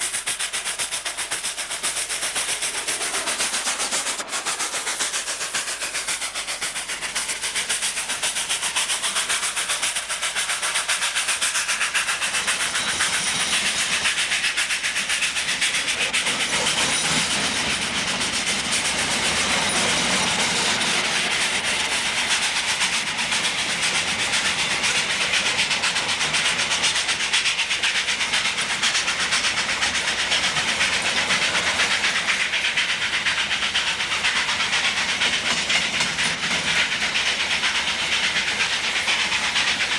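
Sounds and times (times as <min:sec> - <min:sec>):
hissing steam: 0:00.0 - 0:39.9
steam locomotive exhaust beats: 0:00.0 - 0:39.9.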